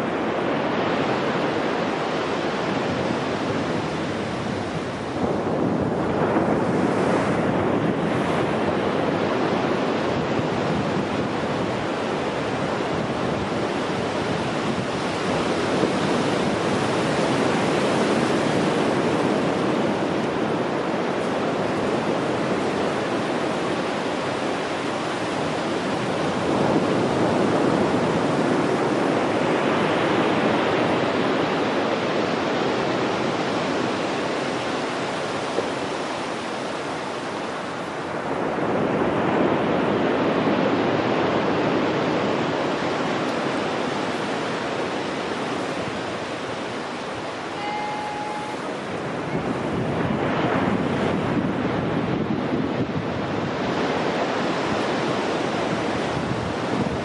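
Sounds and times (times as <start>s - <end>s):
waves breaking on sandy beach: 0.0s - 57.0s.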